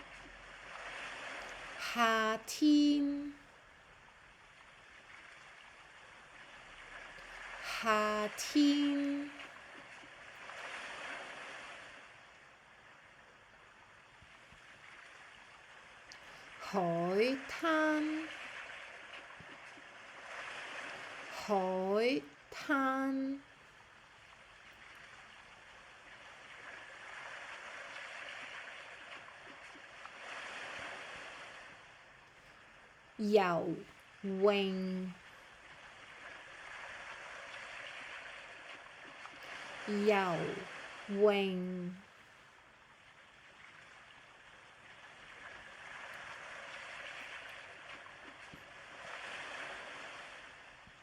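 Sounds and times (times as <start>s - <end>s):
sea waves washing on beach: 0.0s - 51.0s.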